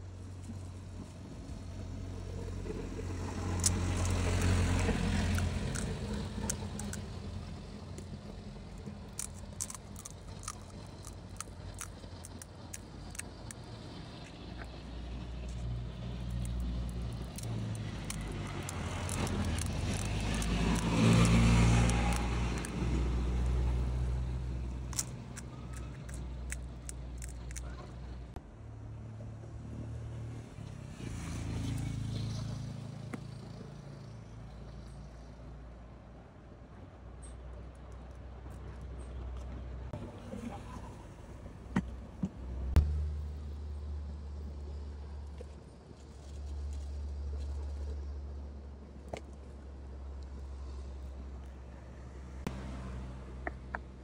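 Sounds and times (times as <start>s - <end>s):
vehicles passing with engine rumble: 0.0s - 54.0s.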